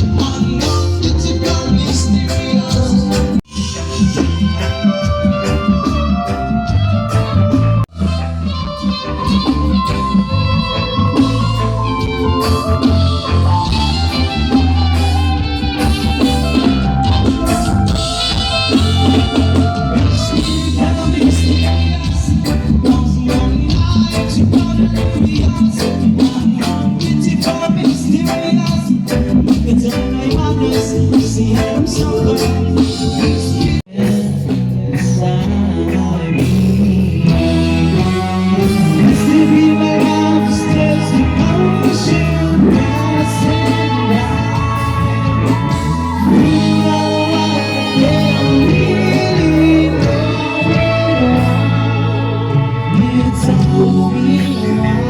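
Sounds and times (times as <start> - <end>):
live band playing amplified music: 0.0 - 55.0
person singing: 0.0 - 55.0.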